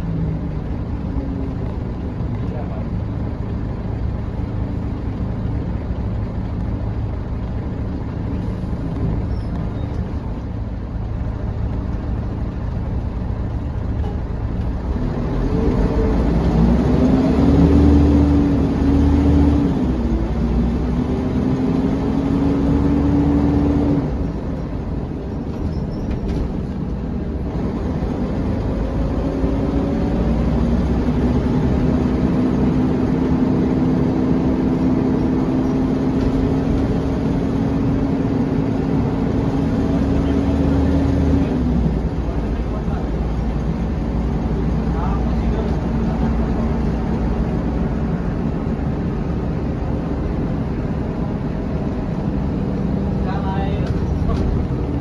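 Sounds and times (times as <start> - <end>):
bus diesel engine humming: 0.0 - 55.0
rising engine whine: 0.0 - 55.0.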